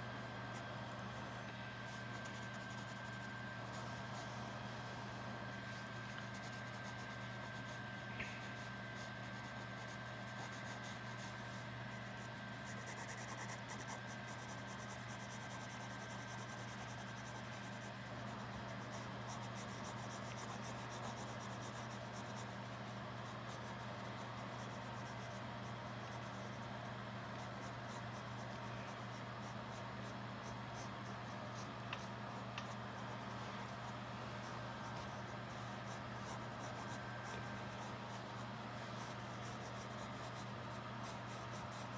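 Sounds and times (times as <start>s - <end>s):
pencil scratching on paper: 0.5s - 26.7s, 27.3s - 41.9s.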